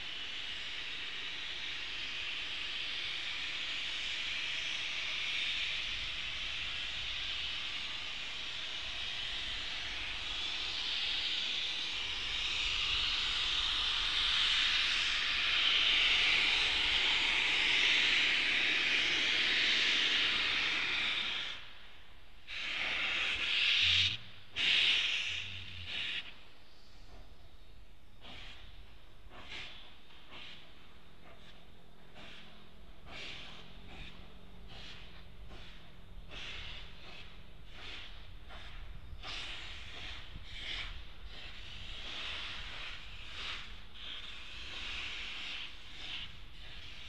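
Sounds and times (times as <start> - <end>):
locomotive exhaust chuffs: 0.0 - 47.0
steam locomotive hissing: 0.0 - 47.0.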